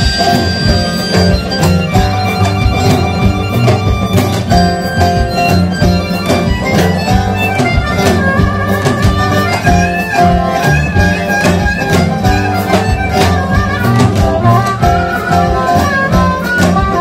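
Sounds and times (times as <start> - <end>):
blues band playing: 0.0 - 17.0
harmonica wailing: 0.0 - 17.0.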